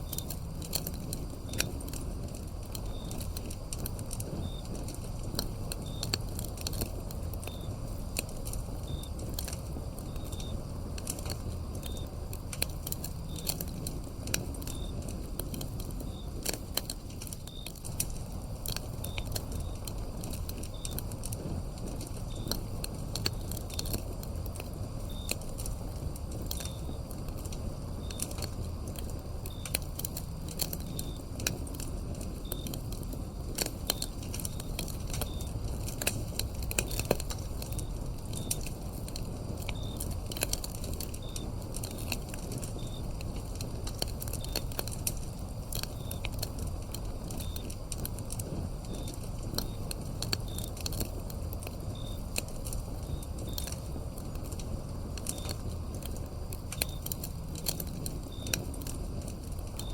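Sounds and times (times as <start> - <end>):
cricket chirping: 0.0 - 59.9
wood fire crackling: 0.0 - 59.9.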